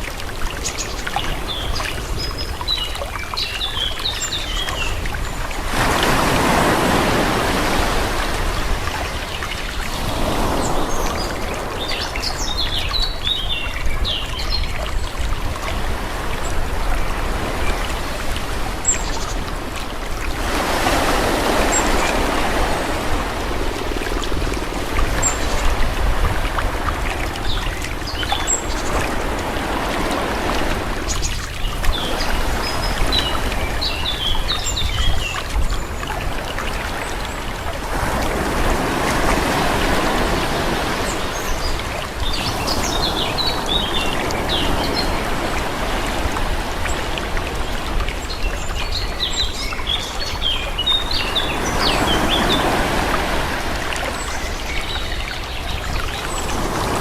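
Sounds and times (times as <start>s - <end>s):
small waves washing in: 0.0s - 57.0s.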